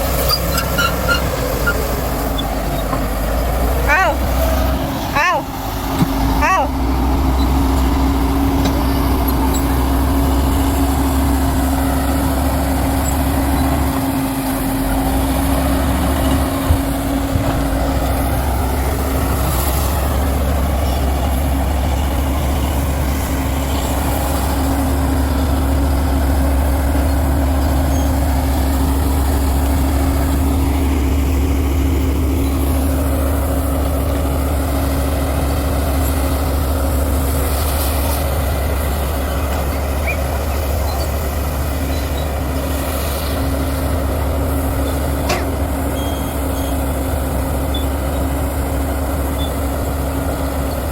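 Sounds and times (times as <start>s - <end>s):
diesel engine rumbling: 0.0s - 50.9s.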